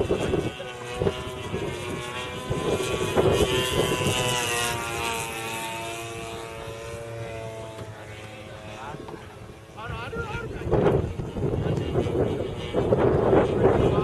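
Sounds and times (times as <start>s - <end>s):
model airplane engine droning: 0.0s - 14.0s
wind buffeting microphone: 0.0s - 14.0s.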